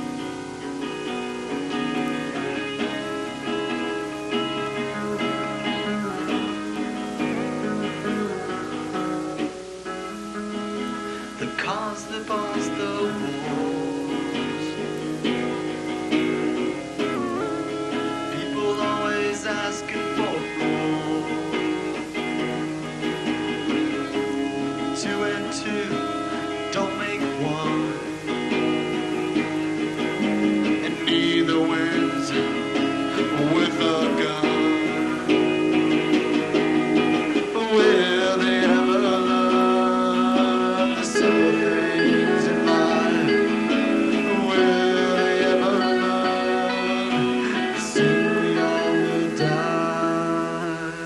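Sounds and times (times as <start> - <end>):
lead guitar with pitch bend: 0.0 - 51.0
live band instrumental: 0.0 - 51.0.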